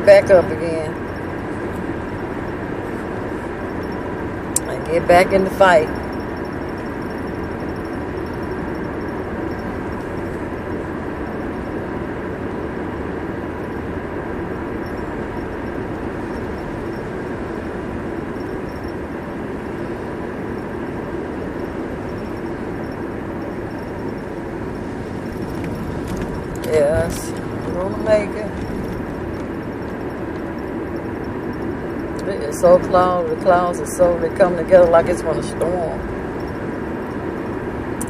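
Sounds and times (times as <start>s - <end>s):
car cabin road noise: 0.0s - 38.0s.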